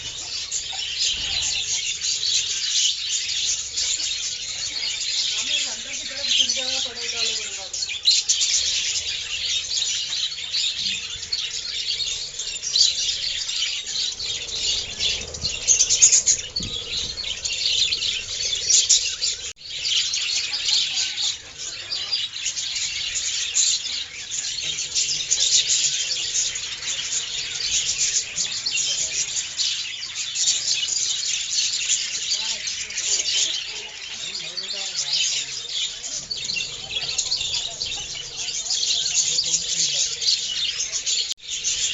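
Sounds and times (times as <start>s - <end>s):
budgerigars chattering: 0.0s - 41.9s.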